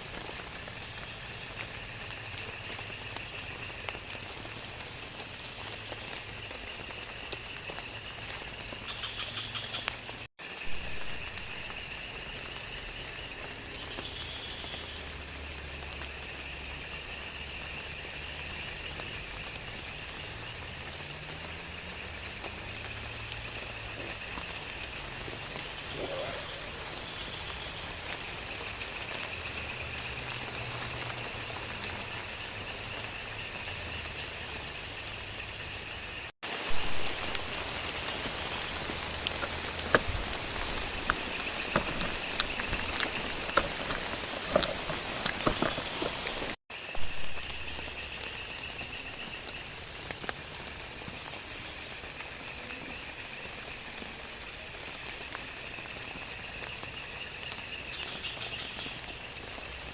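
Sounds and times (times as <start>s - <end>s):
raindrops ticking: 0.0s - 59.9s
steady rain falling: 0.0s - 59.9s.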